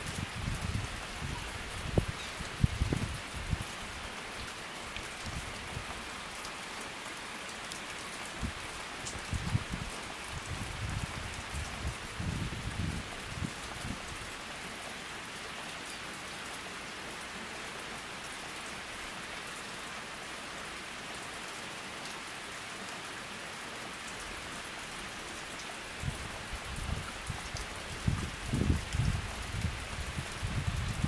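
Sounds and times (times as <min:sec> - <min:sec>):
rain falling on pond: 0:00.0 - 0:31.0.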